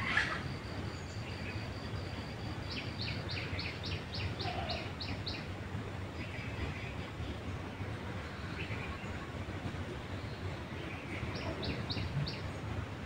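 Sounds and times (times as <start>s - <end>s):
steady low background noise: 0.0s - 13.0s.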